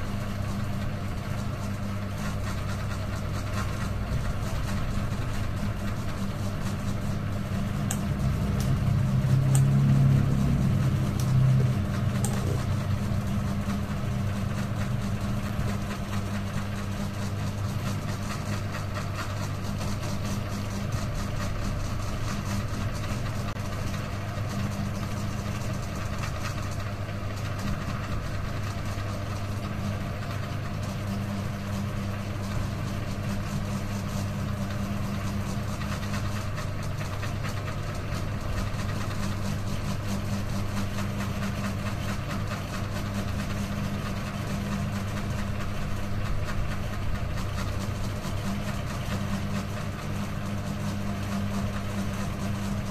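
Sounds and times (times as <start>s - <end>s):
ceiling fan running: 0.0s - 52.9s.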